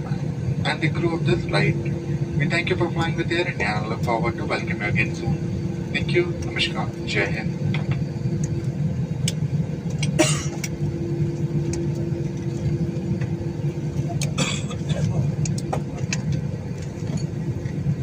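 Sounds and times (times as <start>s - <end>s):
airliner cabin rumble: 0.0s - 18.0s
steady cabin hum: 0.0s - 18.0s.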